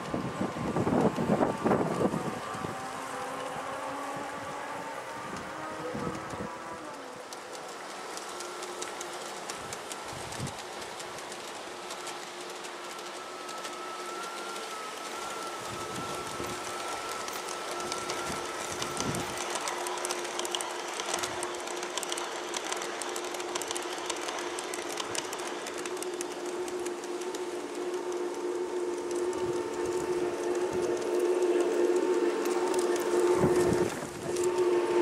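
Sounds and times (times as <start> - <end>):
model train motor hum: 0.0 - 35.0
wheels clicking over rails: 0.0 - 35.0.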